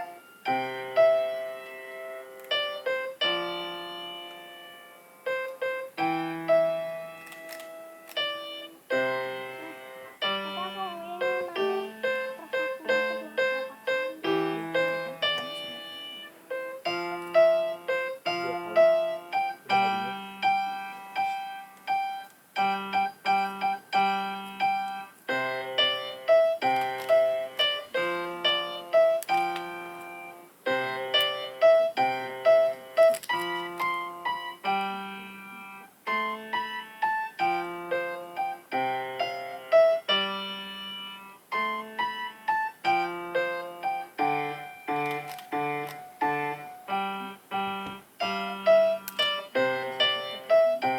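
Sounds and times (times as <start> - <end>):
solo piano piece: 0.0 - 50.9.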